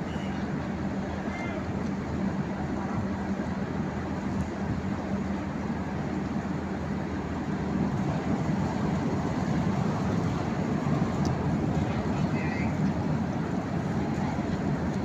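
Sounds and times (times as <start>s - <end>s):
ship machinery rumbling and humming: 0.0s - 15.0s.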